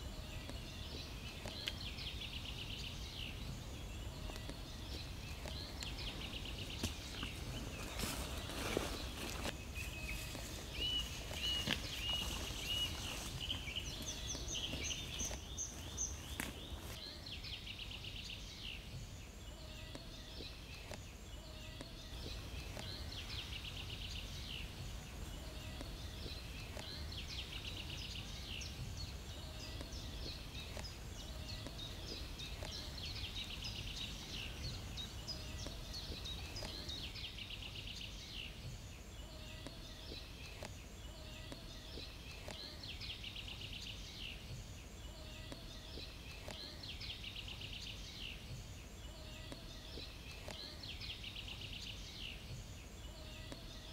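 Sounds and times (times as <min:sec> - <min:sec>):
birds trilled song: 0:00.0 - 0:53.9.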